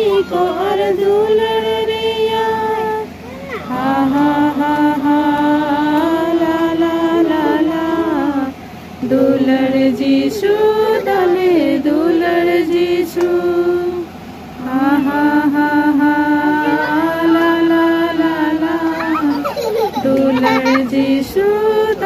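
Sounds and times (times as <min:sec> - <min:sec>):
person singing slow melody: 0:00.0 - 0:22.0.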